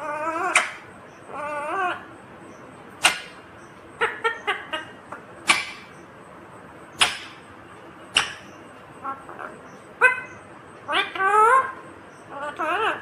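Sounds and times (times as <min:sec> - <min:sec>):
parakeet calling and squawking: 0:00.0 - 0:13.0.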